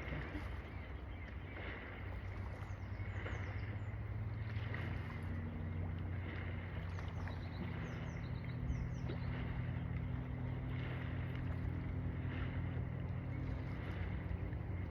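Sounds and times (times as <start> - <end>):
low motor drone: 0.0 - 14.9.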